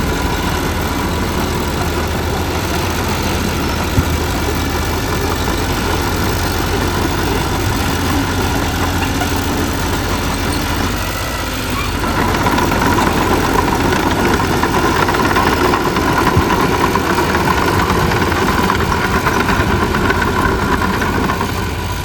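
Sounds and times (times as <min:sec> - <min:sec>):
diesel machinery running: 0:00.0 - 0:22.0
steady machine whine: 0:00.0 - 0:22.0.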